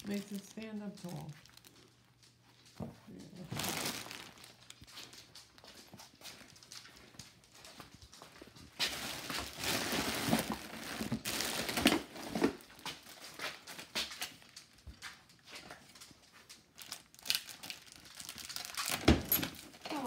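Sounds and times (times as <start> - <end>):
plastic wrappers crinkling: 0.0 - 20.0.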